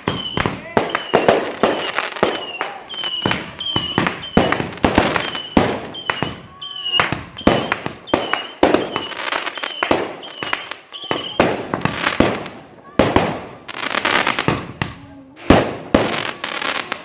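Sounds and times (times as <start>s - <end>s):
fireworks bangs: 0.0s - 17.0s
high firework whistle: 0.0s - 17.0s.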